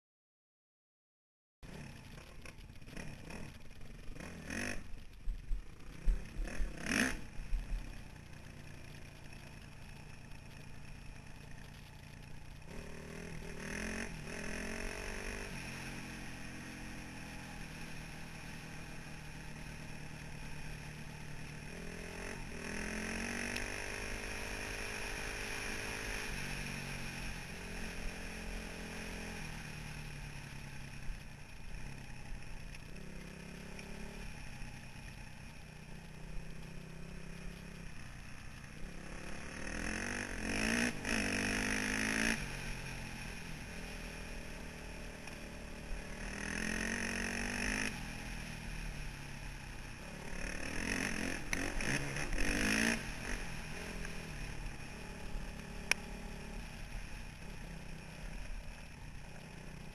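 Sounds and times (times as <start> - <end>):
motorcycle engine revving: 1.6 - 59.9.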